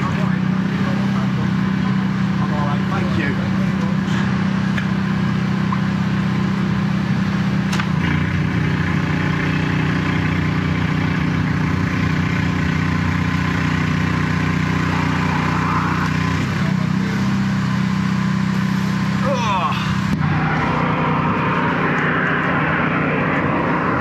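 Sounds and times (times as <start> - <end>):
engine and pump droning: 0.0 - 24.0.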